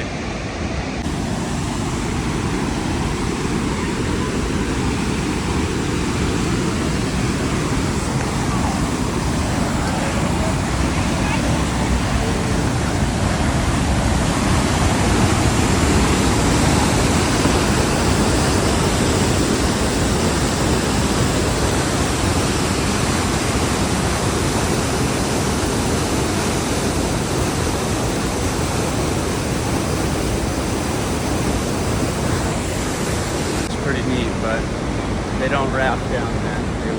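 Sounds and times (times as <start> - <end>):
waterfall and rapids rushing: 0.0 - 36.9.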